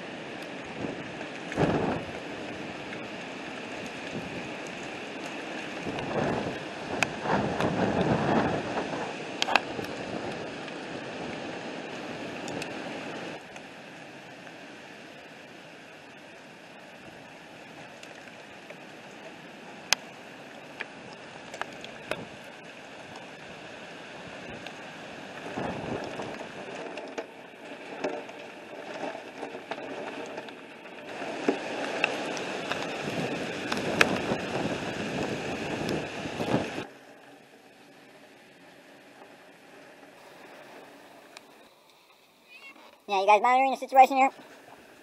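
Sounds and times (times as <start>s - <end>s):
storm rain: 0.0s - 41.9s
wind: 0.0s - 45.0s.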